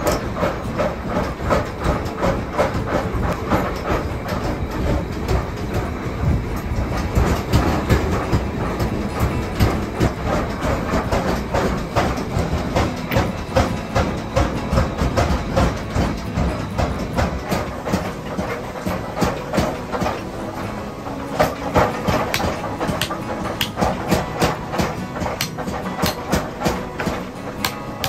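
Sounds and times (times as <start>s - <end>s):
machine rumble: 0.0s - 28.0s
metal knocks clattering: 0.0s - 28.0s.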